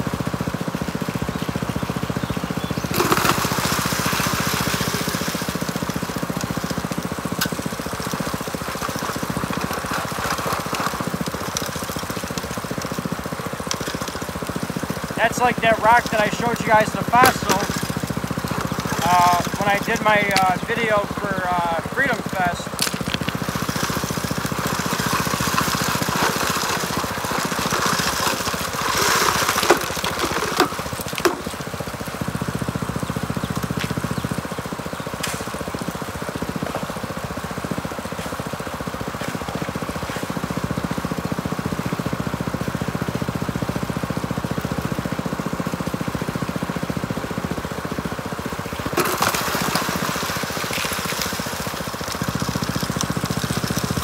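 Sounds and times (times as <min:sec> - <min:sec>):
water and gravel washing: 0:00.0 - 0:54.0
water pump engine running: 0:00.0 - 0:54.0.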